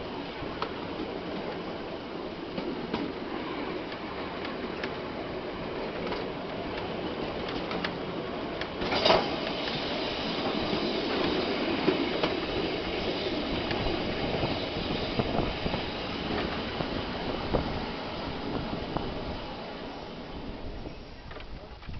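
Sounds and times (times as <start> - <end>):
rumble of wheels on rail: 0.0 - 21.9.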